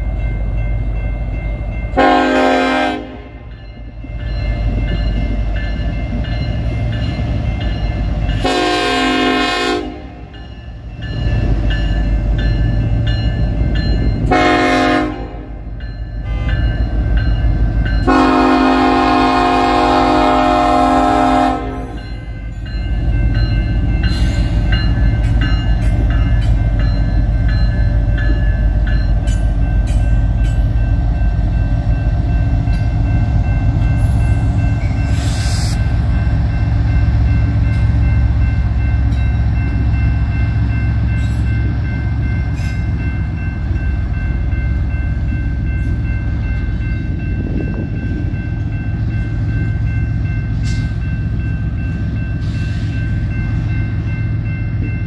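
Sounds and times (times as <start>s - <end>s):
freight train engine and wheel rumble: 0.0s - 55.0s
grade-crossing bell ringing: 0.0s - 55.0s.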